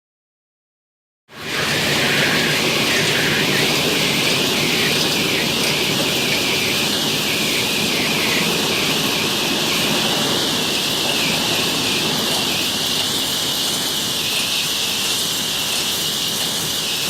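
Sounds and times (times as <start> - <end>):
welding machine running: 1.4 - 17.0.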